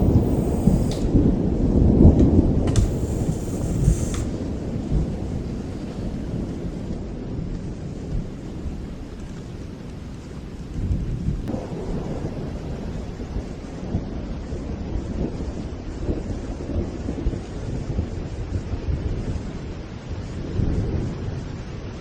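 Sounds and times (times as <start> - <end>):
rain falling: 0.0 - 22.0
rolling thunder: 0.0 - 22.0.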